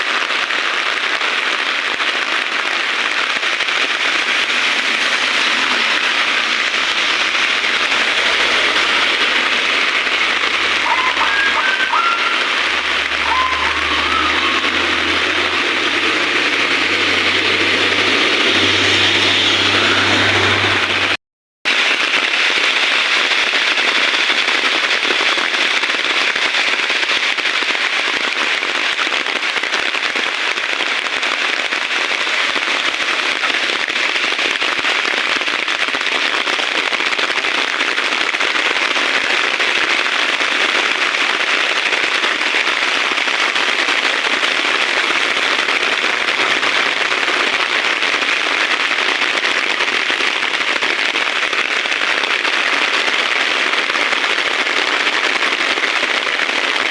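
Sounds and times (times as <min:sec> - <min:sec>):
heavy rain falling: 0:00.0 - 0:21.2, 0:26.4 - 0:56.9.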